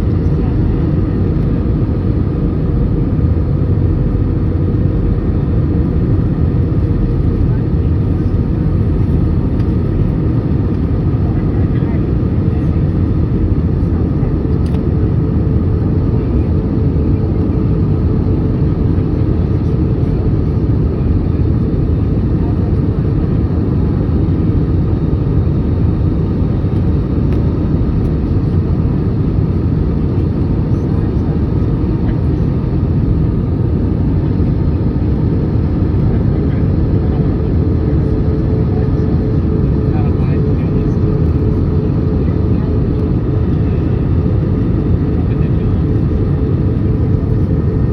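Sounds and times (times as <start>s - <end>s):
airliner cabin jet engine rumble: 0.0s - 47.9s.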